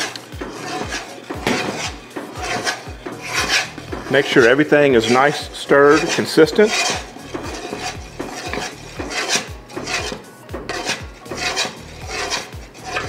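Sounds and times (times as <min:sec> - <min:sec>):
metal spoon scraping pot: 0:00.0 - 0:13.0.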